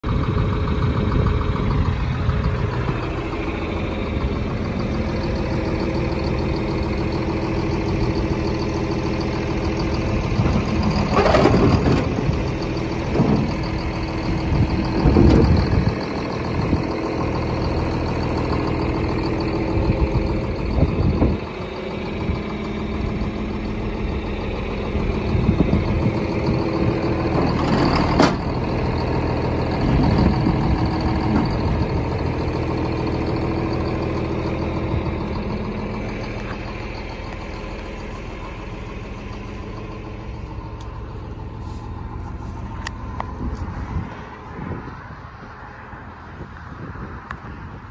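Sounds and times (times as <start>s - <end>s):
machinery clanks and rattles: 0.0s - 45.7s
tractor engine running: 0.0s - 47.9s.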